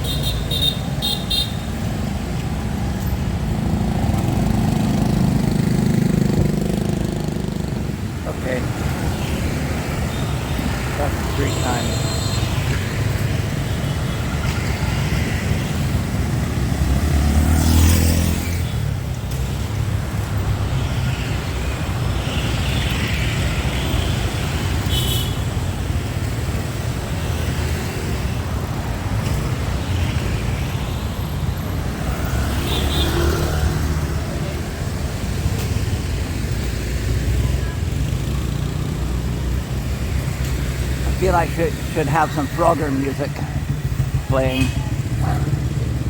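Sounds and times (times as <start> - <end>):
motor vehicles passing: 0.0 - 46.0.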